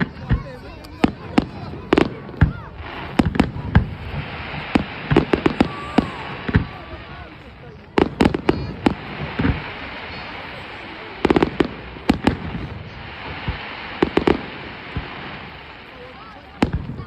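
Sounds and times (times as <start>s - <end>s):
firework bangs: 0.0s - 17.0s
steady hiss: 0.0s - 17.0s.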